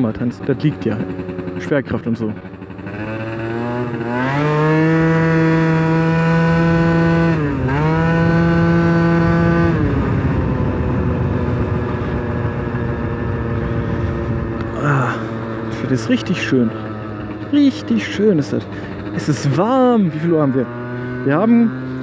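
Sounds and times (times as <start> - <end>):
scooter engine running high-pitched: 0.0 - 22.0
wind and road noise: 0.0 - 22.0.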